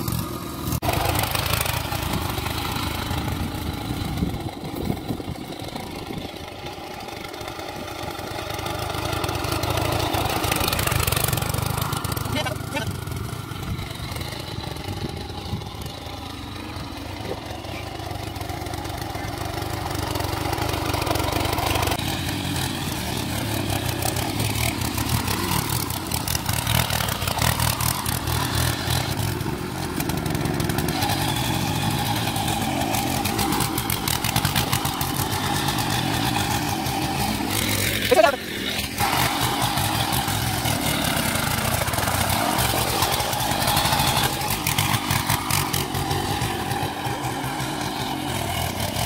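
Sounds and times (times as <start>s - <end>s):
power tiller running: 0.0s - 49.0s
tines churning wet mud: 0.0s - 49.0s.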